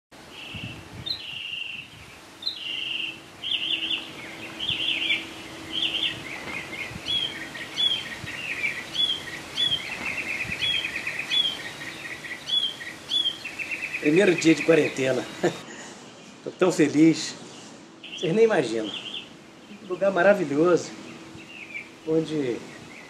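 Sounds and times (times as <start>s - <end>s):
faint steady hum: 0.2s - 23.0s
songbirds singing: 0.2s - 23.0s.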